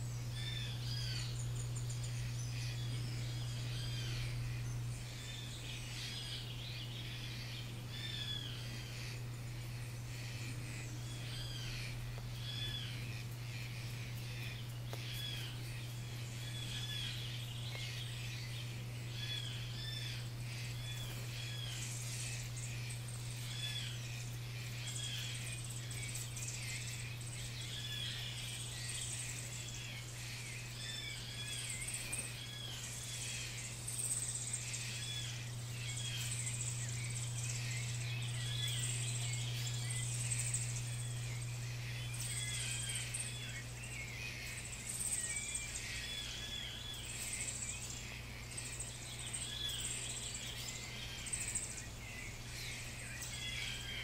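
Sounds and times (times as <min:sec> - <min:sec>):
birds chirping: 0:00.0 - 0:54.0
steady low hum: 0:00.0 - 0:54.0
high insect buzz: 0:08.0 - 0:54.0.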